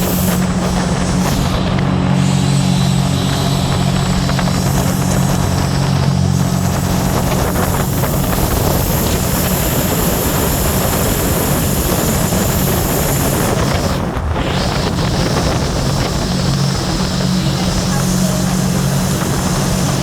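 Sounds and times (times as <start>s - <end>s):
boat engine droning: 0.0s - 20.0s
rush of wind and water: 0.0s - 20.0s.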